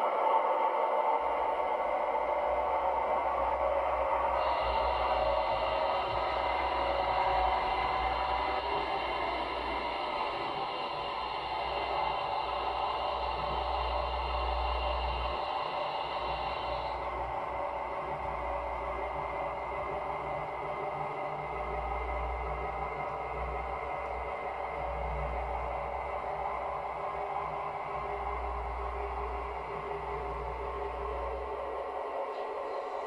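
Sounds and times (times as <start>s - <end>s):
high motor whine: 0.0s - 33.0s
model train wheels rumbling: 3.4s - 32.0s.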